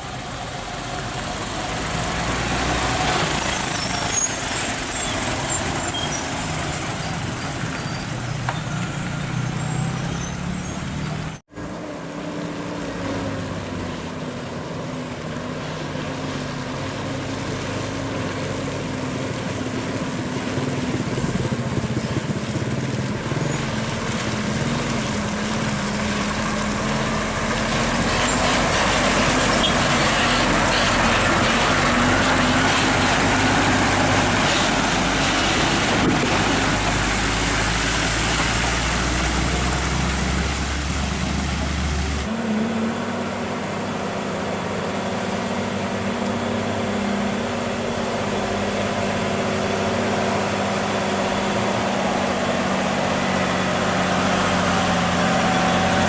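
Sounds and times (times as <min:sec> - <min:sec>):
trucks driving by: 0:00.0 - 0:56.0.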